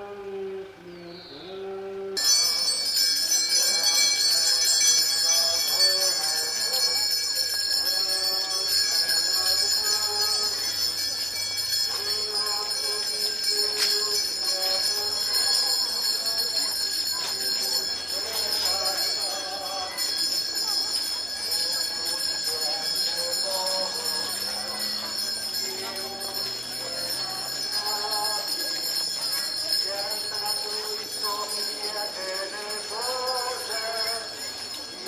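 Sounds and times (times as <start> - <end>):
faint voices: 0.0 - 35.0
handbells ringing: 2.2 - 35.0.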